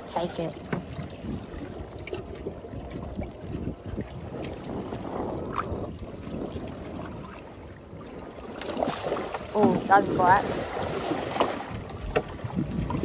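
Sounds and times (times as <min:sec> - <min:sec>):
water splashing and sloshing: 0:00.0 - 0:13.0
wind buffeting microphone: 0:00.0 - 0:13.0.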